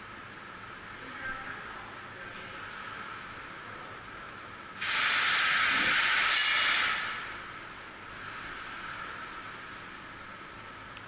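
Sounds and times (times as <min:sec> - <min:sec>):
loud steady hiss: 0:00.0 - 0:10.9.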